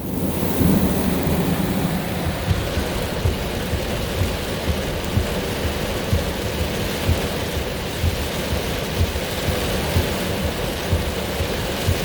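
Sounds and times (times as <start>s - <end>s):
heavy rain on a car: 0.0s - 12.0s
thunder rumbling: 0.0s - 12.0s.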